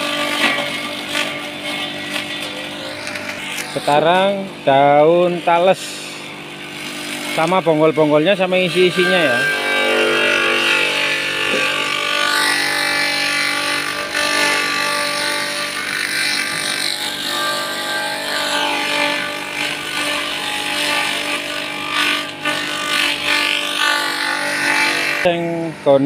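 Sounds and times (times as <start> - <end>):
chopper shredding leaves: 0.0 - 26.0
motor humming: 0.0 - 26.0.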